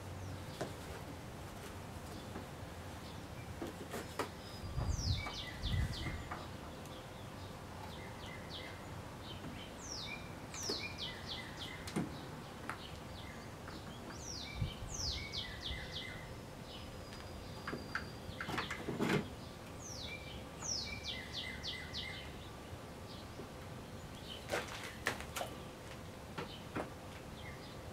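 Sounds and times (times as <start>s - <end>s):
songbird chirping: 0.0s - 27.9s.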